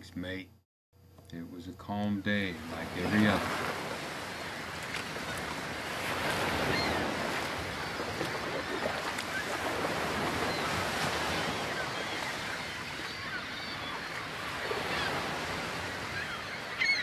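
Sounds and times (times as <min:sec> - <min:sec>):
ocean waves washing in: 0:02.4 - 0:17.0.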